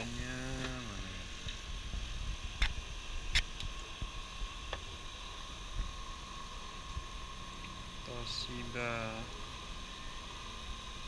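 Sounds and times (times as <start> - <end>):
faint high hum: 0.0 - 11.0
steady hiss: 0.0 - 11.0.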